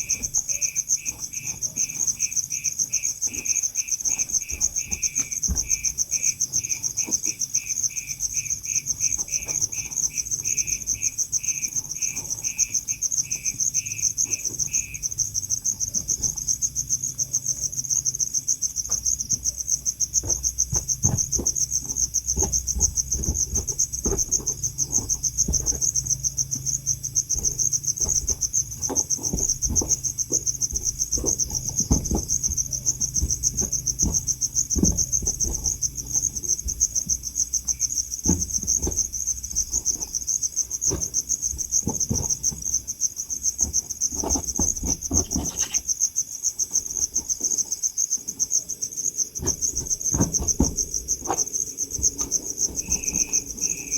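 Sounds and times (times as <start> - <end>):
low knocks and rustles: 0.0 - 17.5, 18.7 - 47.7, 48.5 - 53.9
crickets trilling: 0.0 - 53.9
insect chirping: 0.0 - 53.9.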